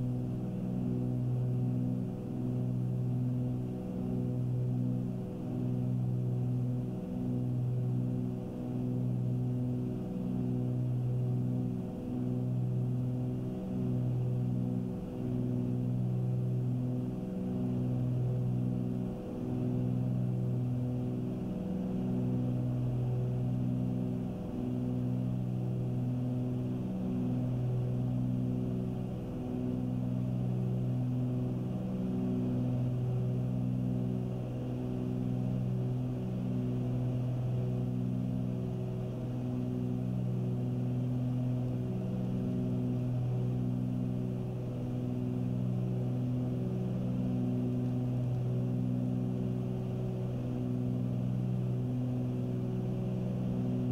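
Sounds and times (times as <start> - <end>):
propeller plane engines droning: 0.0 - 53.9.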